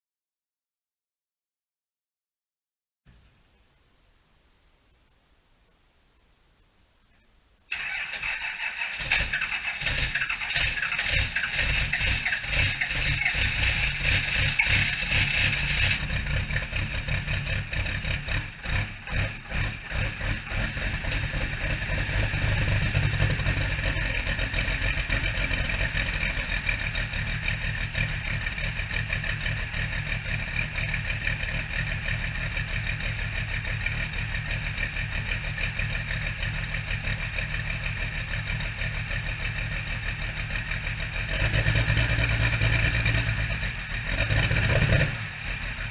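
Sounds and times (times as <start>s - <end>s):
diesel engine starting and idling: 7.7s - 45.9s.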